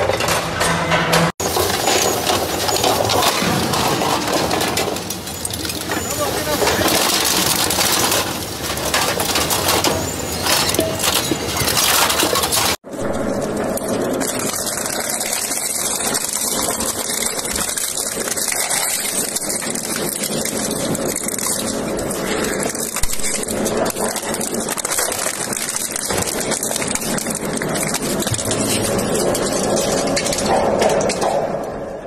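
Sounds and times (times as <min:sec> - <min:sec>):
crushing machine grinding scrap: 0:00.0 - 0:31.4.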